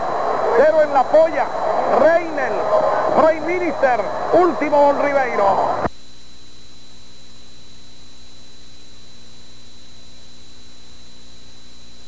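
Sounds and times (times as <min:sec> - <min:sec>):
low mains hum: 0:00.0 - 0:12.0
steady tape hiss: 0:00.0 - 0:12.0
thin high-pitched whine: 0:00.0 - 0:12.0.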